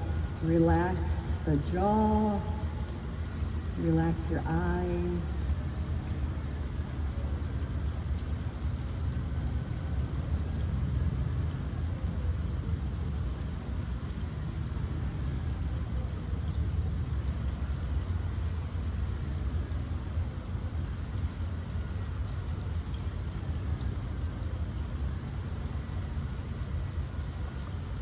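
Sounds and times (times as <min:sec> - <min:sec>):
low outdoor ambient rumble: 0:00.0 - 0:28.0.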